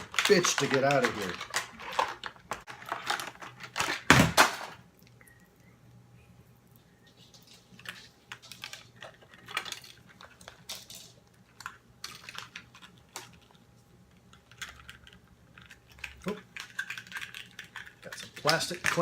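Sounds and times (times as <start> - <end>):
plastic packaging clicks and rustling: 0.0 - 4.9, 7.4 - 19.0.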